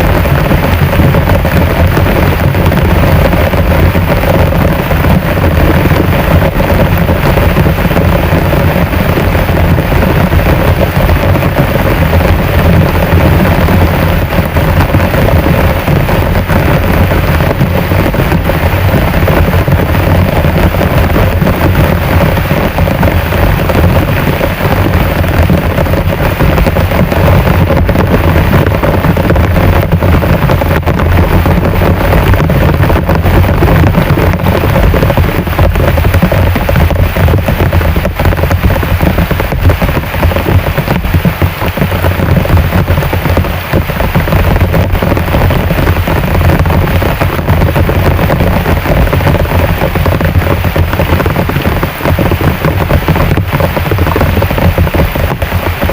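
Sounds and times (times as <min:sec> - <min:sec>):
deep rumble: 0:00.0 - 0:55.9
heavy rain pouring: 0:00.0 - 0:55.9.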